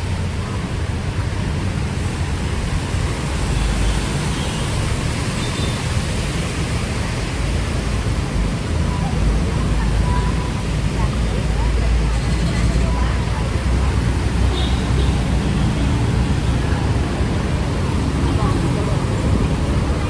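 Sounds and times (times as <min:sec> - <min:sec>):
heavy rain hissing: 0:00.0 - 0:20.0
street traffic rumble: 0:00.0 - 0:20.0.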